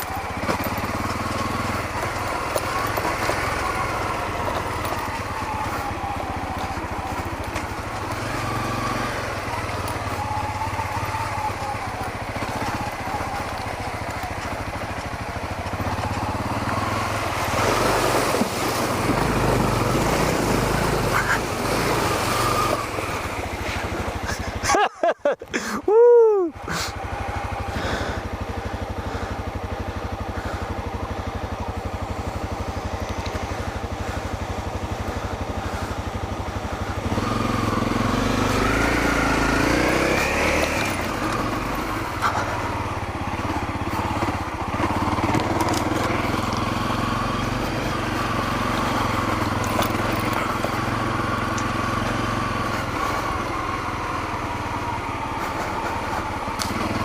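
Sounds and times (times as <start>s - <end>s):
dirt bike engine revving: 0.0s - 25.7s, 26.6s - 57.0s.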